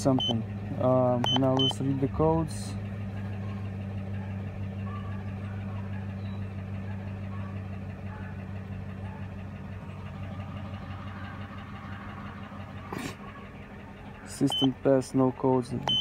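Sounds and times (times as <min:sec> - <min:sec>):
pickup engine idling: 0:00.0 - 0:16.0.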